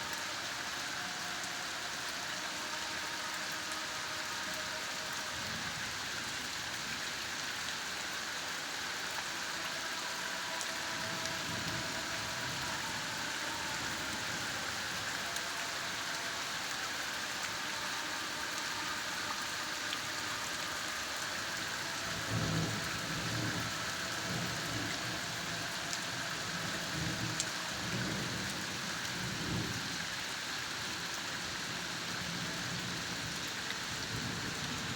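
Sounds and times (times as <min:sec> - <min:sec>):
light rain falling: 0:00.0 - 0:34.9.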